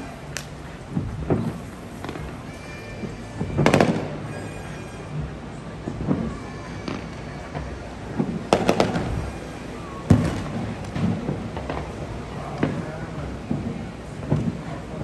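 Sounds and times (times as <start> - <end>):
fireworks bangs echoing: 0.0 - 14.9.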